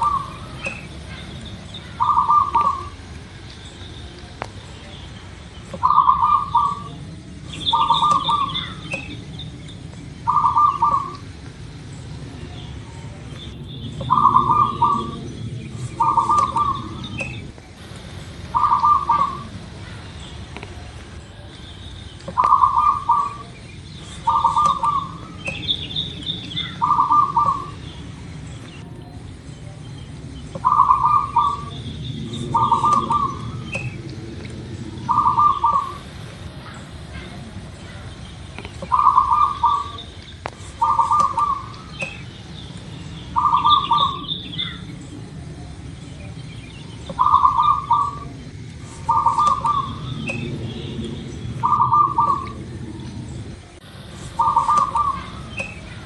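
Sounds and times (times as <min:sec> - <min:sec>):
dove cooing: 0:00.0 - 0:04.4, 0:05.6 - 0:21.6, 0:22.3 - 0:56.0
small birds chirping: 0:00.0 - 0:56.0.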